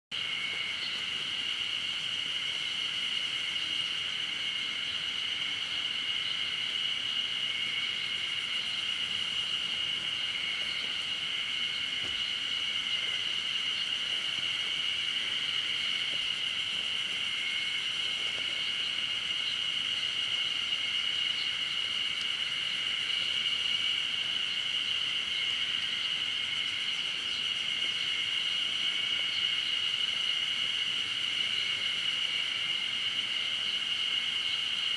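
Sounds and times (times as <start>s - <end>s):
insects chorus: 0.1s - 34.9s.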